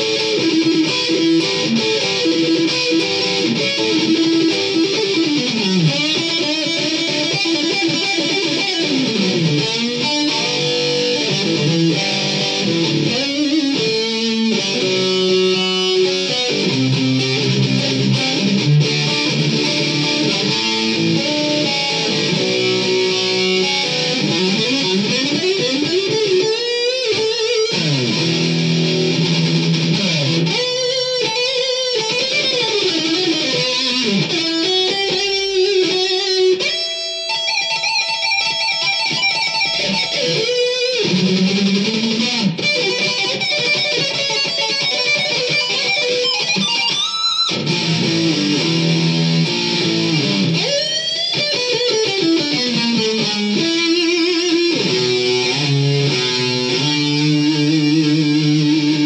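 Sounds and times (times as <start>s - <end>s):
electric guitar fast lead runs: 0.0s - 59.0s.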